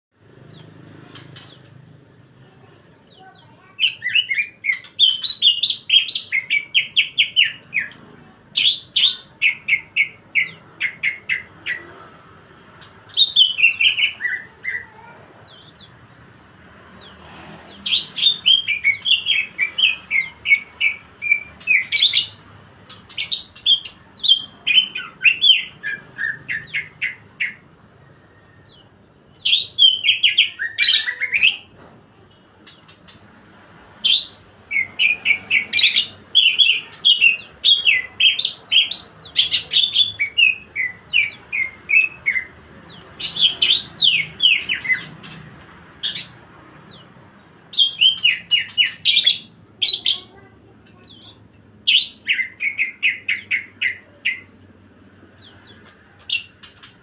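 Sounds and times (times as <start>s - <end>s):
bird singing chattering high notes: 0.4s - 16.3s, 17.8s - 33.4s, 34.0s - 50.4s.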